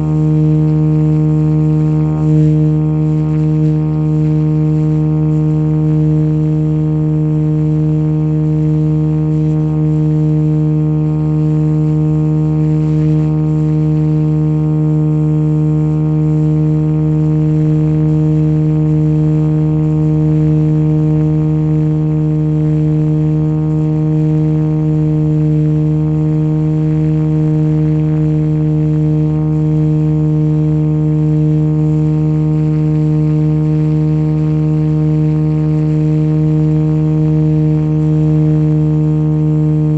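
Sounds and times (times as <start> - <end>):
model helicopter humming: 0.0 - 39.9.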